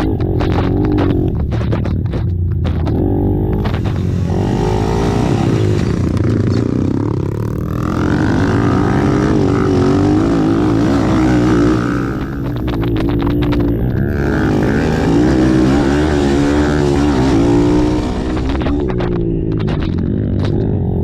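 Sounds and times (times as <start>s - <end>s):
atv engines revving: 0.0s - 21.0s.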